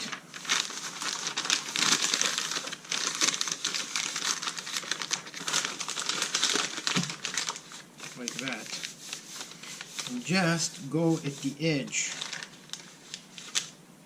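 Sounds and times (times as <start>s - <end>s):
newspaper crinkling: 0.0s - 13.8s.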